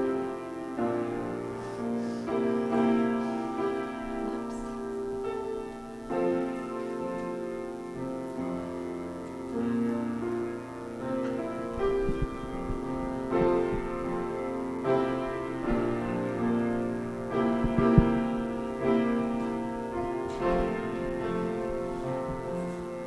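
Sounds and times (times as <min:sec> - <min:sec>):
piano playing slow chords: 0:00.0 - 0:23.0.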